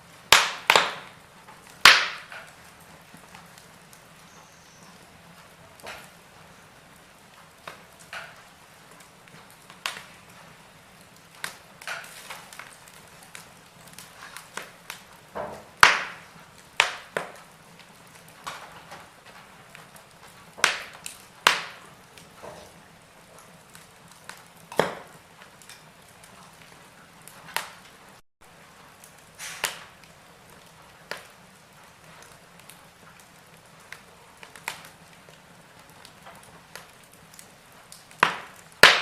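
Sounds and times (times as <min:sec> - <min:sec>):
faint steady hiss: 0:00.0 - 0:39.0
wood fire crackling and popping: 0:00.0 - 0:39.0.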